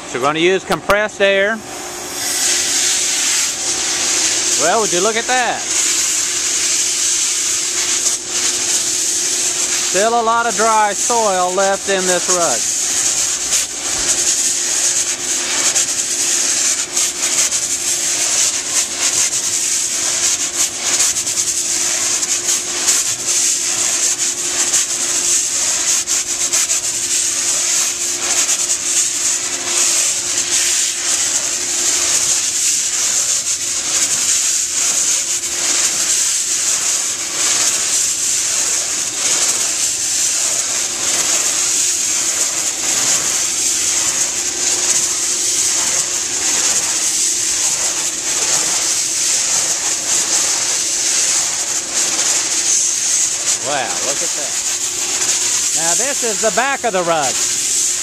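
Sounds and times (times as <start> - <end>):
compressed air hissing into rug: 0.0 - 58.0.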